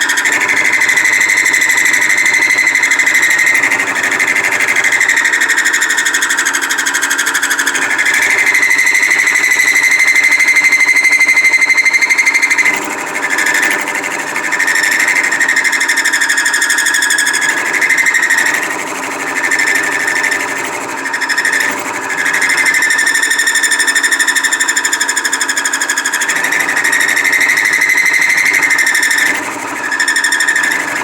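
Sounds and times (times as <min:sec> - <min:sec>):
cutter cutting into steel shaft: 0:00.0 - 0:31.0
high-pitched machine whine: 0:00.0 - 0:31.0.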